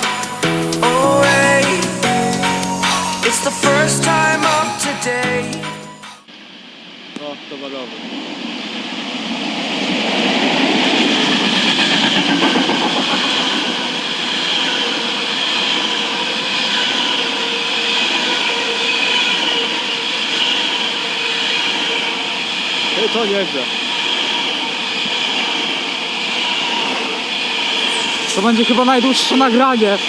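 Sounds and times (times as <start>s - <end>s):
high whine of wheels on rails: 0.0s - 3.5s, 7.9s - 30.0s
freight train rumbling past: 0.0s - 6.2s, 8.0s - 30.0s.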